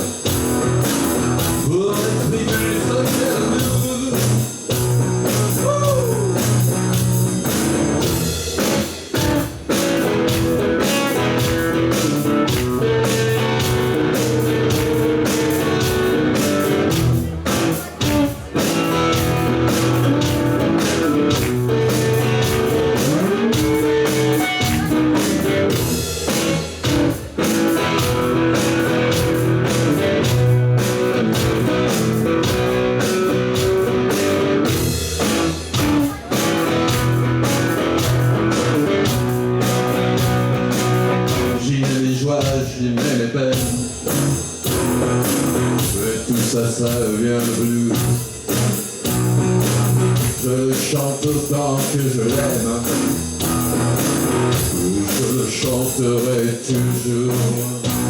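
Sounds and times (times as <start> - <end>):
lead guitar with bent notes: 0.0 - 41.7, 43.6 - 50.7, 51.5 - 58.0
bass guitar: 0.0 - 58.0
drums: 0.0 - 58.0.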